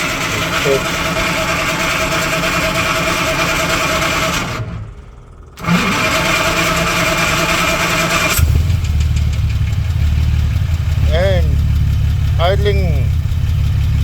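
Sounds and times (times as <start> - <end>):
car engine starting and running: 0.0 - 14.0
deep engine idle: 0.0 - 14.0.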